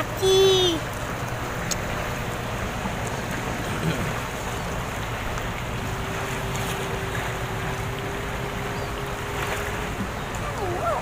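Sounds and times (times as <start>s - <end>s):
sea water washing around pier: 0.0s - 11.0s.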